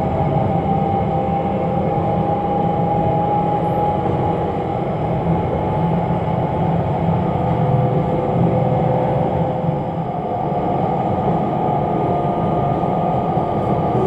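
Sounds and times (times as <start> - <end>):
railbus engine and wheels droning: 0.0 - 14.0.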